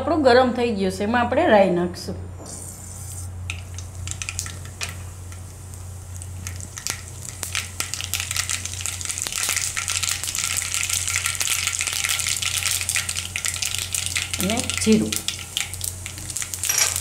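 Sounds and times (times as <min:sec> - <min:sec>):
seeds sizzling and crackling in oil: 0:02.7 - 0:17.0.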